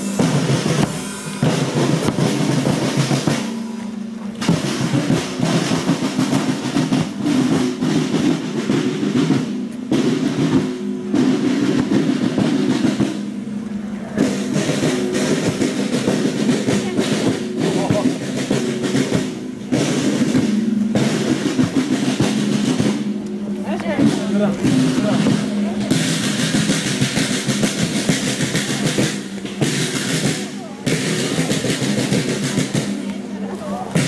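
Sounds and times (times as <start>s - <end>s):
held musical notes: 0.0s - 34.0s
marching drums with snare rolls: 0.0s - 34.0s.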